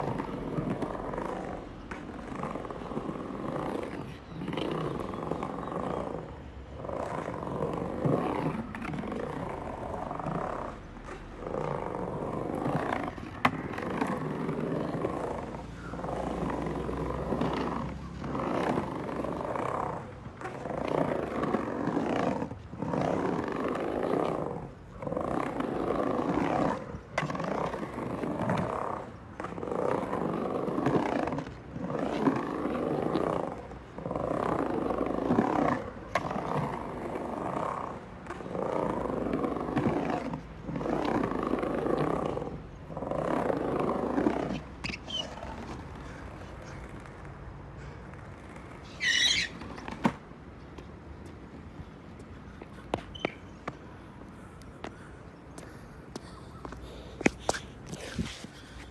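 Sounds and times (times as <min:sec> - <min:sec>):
skateboard clack: 0:00.0 - 0:58.9
skateboard wheels rolling on concrete: 0:00.0 - 0:58.9.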